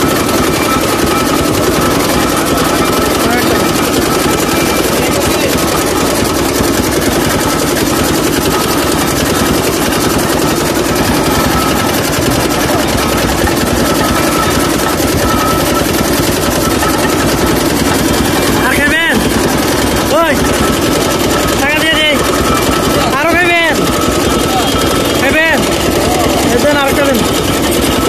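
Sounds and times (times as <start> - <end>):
juice press mechanical chatter: 0.0 - 28.0.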